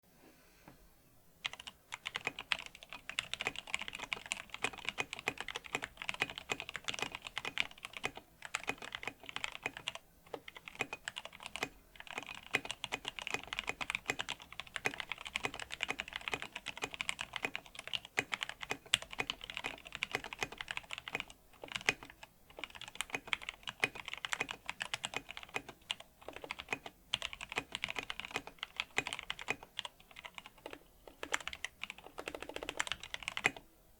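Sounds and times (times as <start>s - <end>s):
mechanical keyboard typing: 1.4s - 33.7s.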